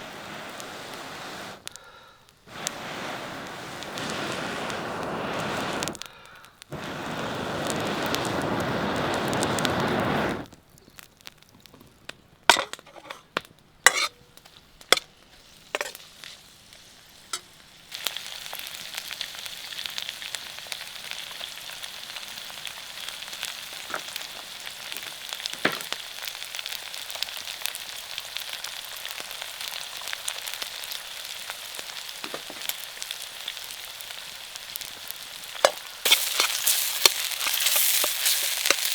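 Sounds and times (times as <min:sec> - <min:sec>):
food sizzling in a wok: 0:00.0 - 0:01.7, 0:02.4 - 0:06.1, 0:06.7 - 0:10.5, 0:13.8 - 0:38.9.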